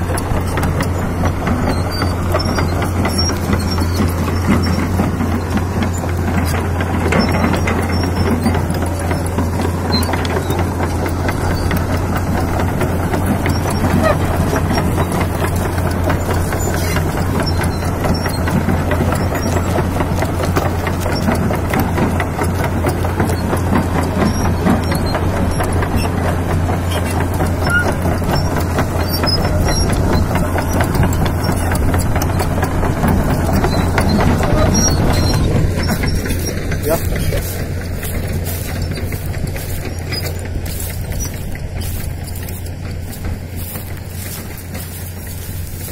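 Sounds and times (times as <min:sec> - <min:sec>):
excavator diesel engine humming: 0:00.0 - 0:45.9.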